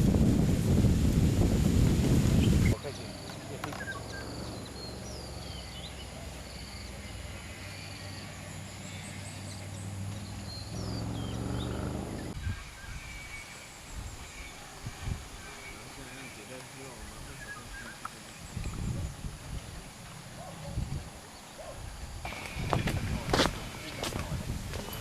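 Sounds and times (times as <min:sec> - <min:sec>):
small birds chirping: 0:02.2 - 0:25.0.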